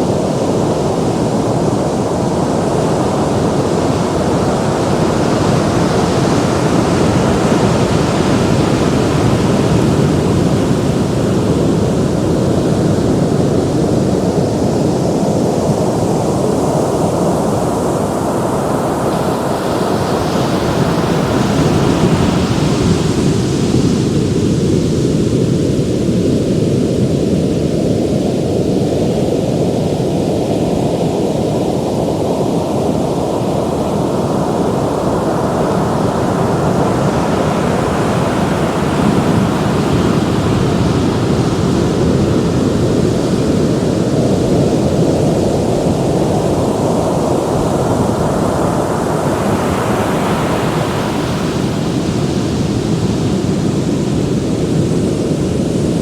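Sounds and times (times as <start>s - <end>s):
ocean waves breaking: 0.0s - 25.8s, 32.8s - 56.0s.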